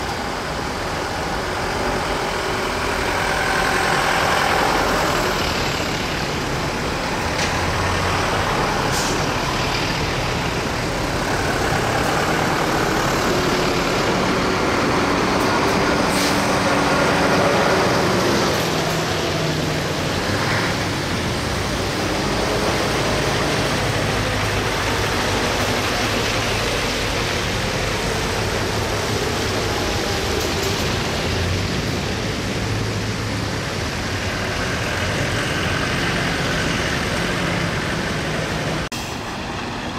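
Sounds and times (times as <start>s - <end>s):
truck engines driving past: 0.0s - 39.9s
tyres hissing on wet road: 0.0s - 39.9s.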